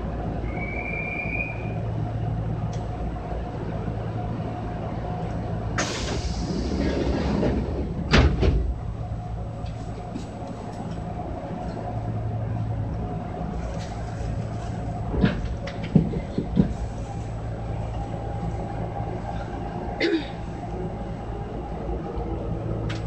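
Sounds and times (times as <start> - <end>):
train running gear hum: 0.0 - 23.0
wheel-on-rail noise: 0.0 - 23.0.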